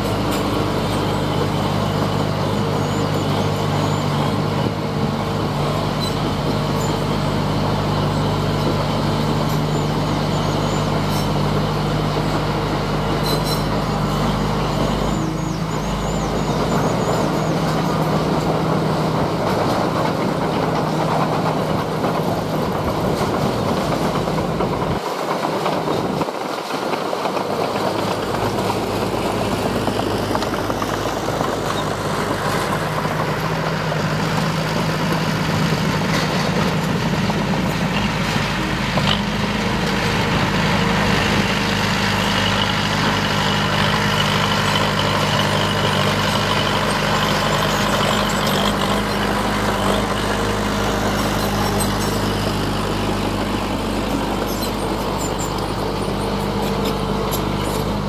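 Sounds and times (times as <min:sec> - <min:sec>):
heavy diesel machinery droning: 0:00.0 - 0:58.0.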